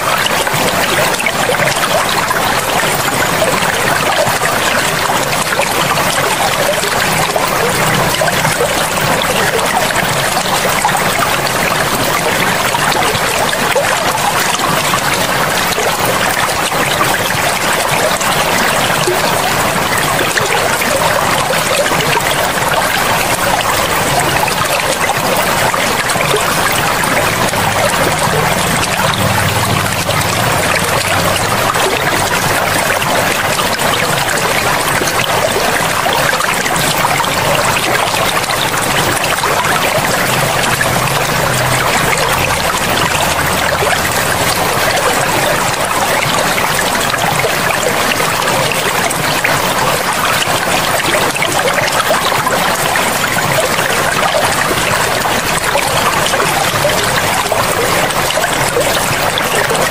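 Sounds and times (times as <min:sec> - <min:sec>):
river water flowing over stones: 0:00.0 - 0:59.9.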